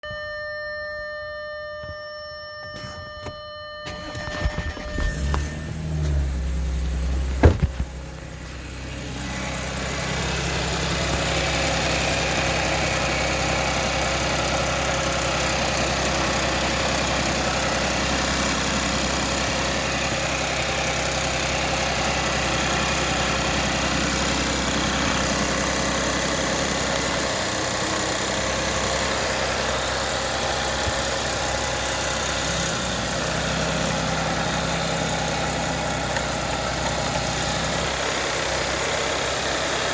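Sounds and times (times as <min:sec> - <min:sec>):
car engine idling: 0:04.0 - 0:39.9.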